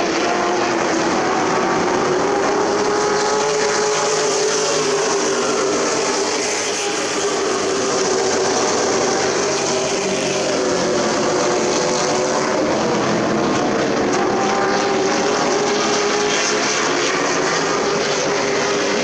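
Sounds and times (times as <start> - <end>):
race truck engines droning: 0.0 - 19.0.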